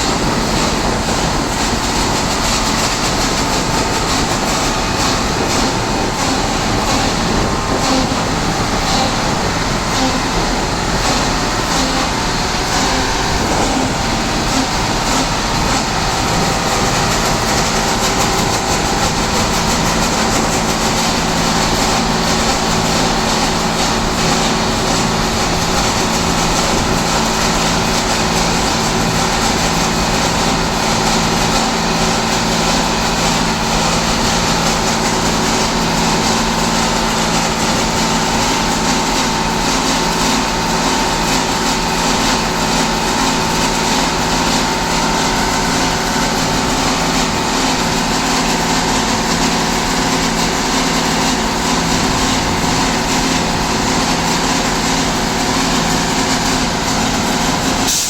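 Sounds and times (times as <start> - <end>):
train diesel engine running: 0.0 - 58.0.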